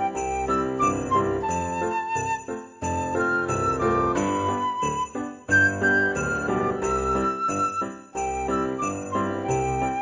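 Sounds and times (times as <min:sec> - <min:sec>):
christmas music: 0:00.0 - 0:10.0
sleigh bells jingling: 0:00.0 - 0:10.0.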